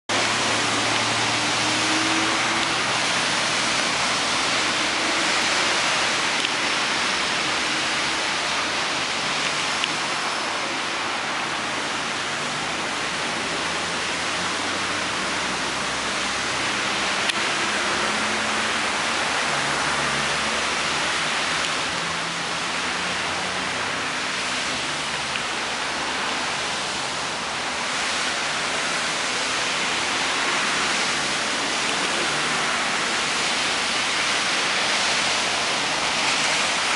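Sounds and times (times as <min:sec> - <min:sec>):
rain falling: 0:00.1 - 0:36.9.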